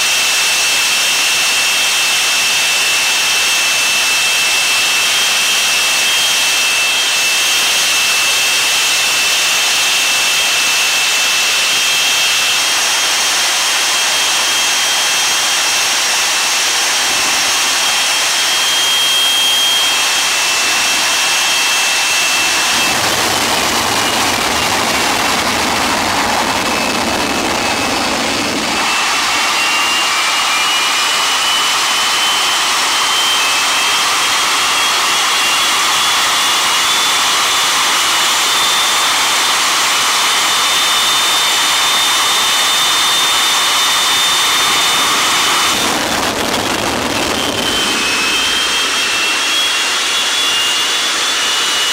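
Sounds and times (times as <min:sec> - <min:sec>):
jet engine whine: 0:00.0 - 0:51.9.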